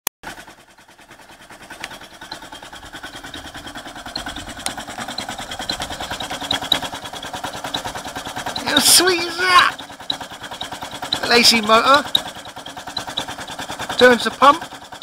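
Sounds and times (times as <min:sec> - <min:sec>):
air compressor chugging: 0:00.2 - 0:15.0.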